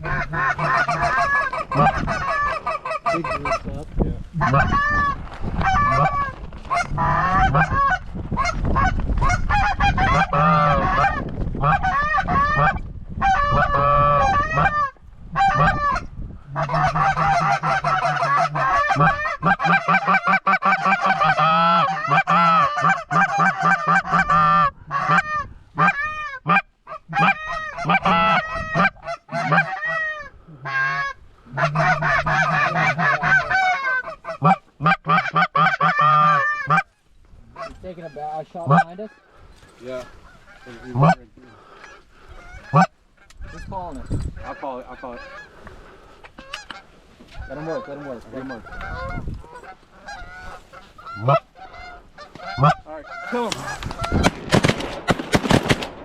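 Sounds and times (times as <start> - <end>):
geese honking: 0.0 - 54.7.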